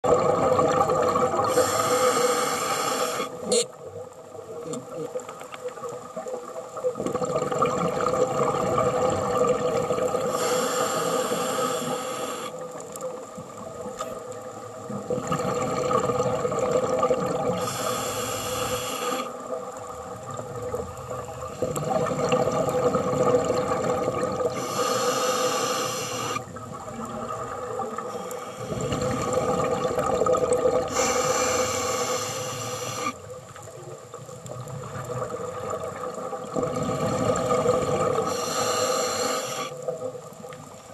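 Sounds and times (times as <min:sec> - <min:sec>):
exhaled bubbles hissing underwater: 0:00.1 - 0:03.7, 0:06.8 - 0:33.4, 0:34.5 - 0:40.5.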